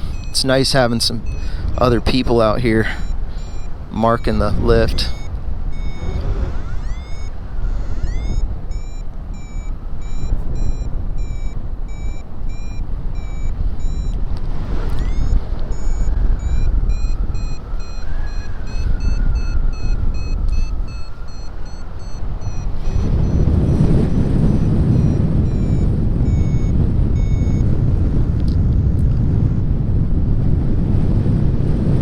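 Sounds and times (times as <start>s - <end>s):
variometer short pitched beeps: 0.0s - 14.2s, 14.8s - 27.7s
wind rushing over microphone: 0.0s - 32.0s.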